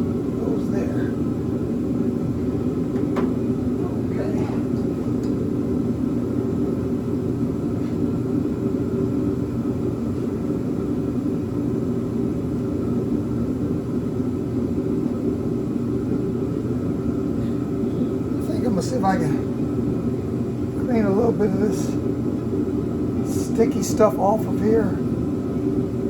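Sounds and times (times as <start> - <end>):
mechanical hum and rumble: 0.0 - 26.0.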